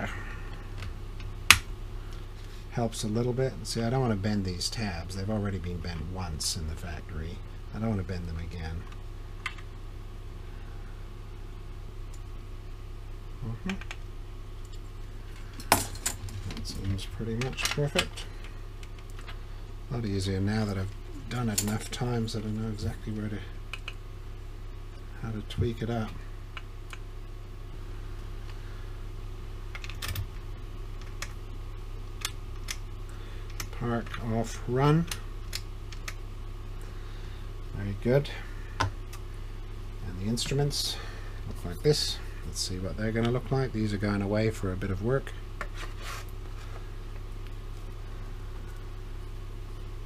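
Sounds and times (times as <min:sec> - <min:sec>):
low room hum: 0:00.0 - 0:50.0.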